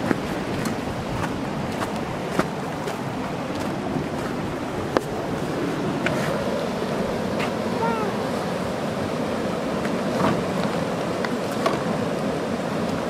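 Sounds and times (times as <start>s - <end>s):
water rushing through sluice gates: 0.0s - 13.0s.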